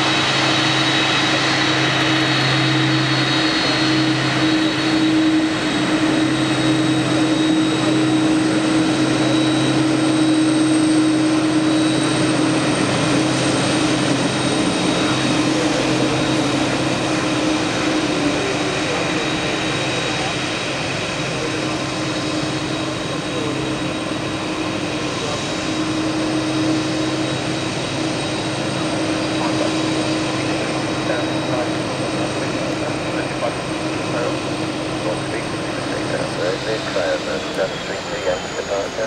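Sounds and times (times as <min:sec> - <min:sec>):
jet engines idling: 0:00.0 - 0:39.0.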